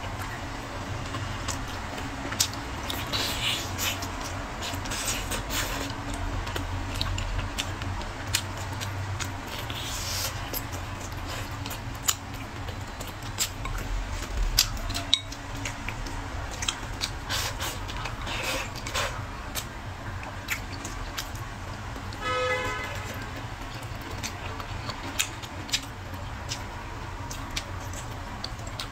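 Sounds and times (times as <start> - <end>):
person chewing with wet smacks: 0.0 - 28.9
steady low hum: 0.0 - 28.9.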